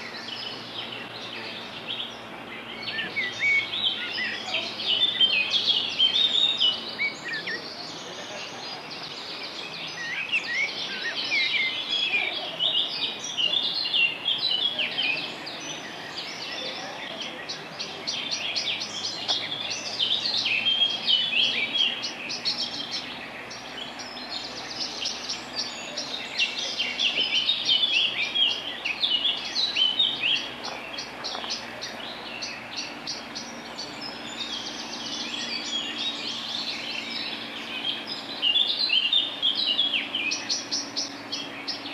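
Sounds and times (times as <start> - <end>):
running stream water: 0.0 - 41.9
songbirds chirping and trilling: 0.0 - 41.9.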